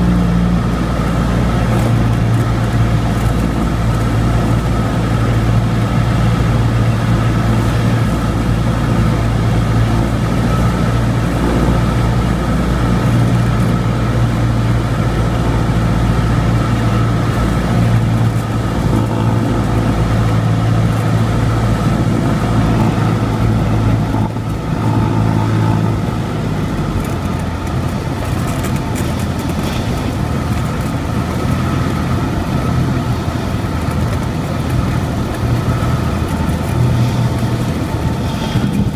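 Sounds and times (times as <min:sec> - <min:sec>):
aircraft engine and propeller droning: 0:00.0 - 0:38.9.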